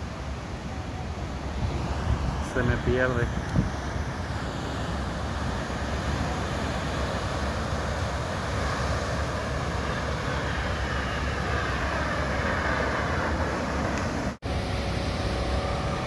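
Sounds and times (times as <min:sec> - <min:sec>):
faint falling whine: 0:00.0 - 0:16.0
jet engine roar: 0:00.0 - 0:16.0.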